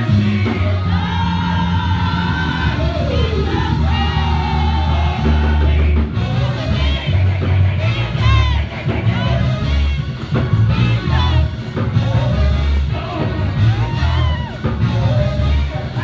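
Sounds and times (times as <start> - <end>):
band playing worship music: 0.0 - 16.0
people singing: 0.0 - 16.0
pulsing bass line: 0.0 - 16.0.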